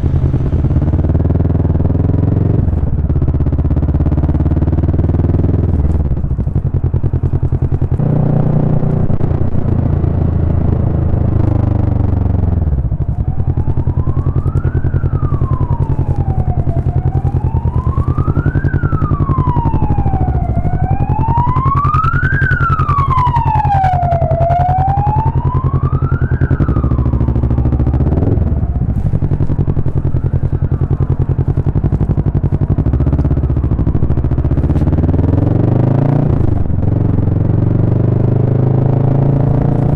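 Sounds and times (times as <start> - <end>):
emergency vehicle siren wailing: 0.0 - 39.9
motorcycle engine running: 0.0 - 39.9.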